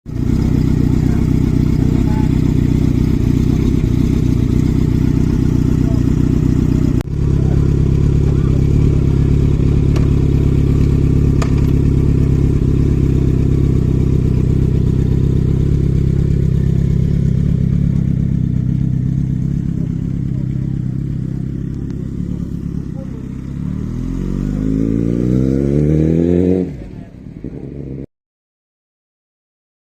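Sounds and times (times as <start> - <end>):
motorcycle engine running: 0.1 - 28.0.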